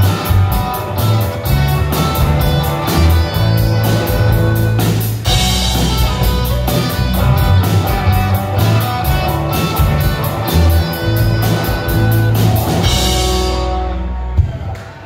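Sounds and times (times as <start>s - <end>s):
live rock band playing: 0.0s - 14.7s.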